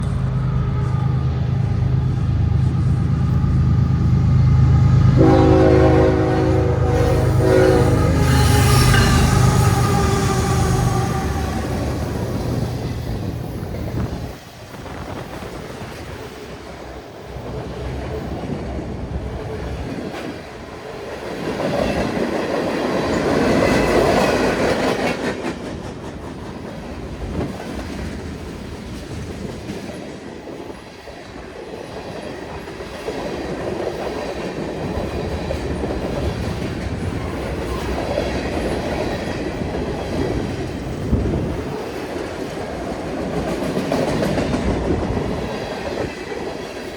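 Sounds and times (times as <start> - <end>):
freight train rumble: 0.0 - 46.9.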